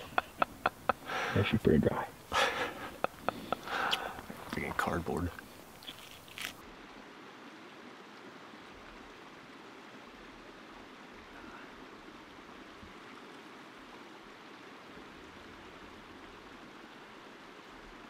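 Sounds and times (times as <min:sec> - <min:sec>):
creek running: 0:00.0 - 0:18.0.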